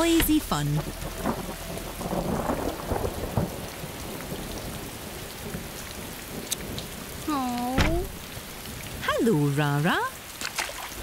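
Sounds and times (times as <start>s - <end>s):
thunder rumbling: 0.0s - 9.1s
rain falling: 0.0s - 11.0s.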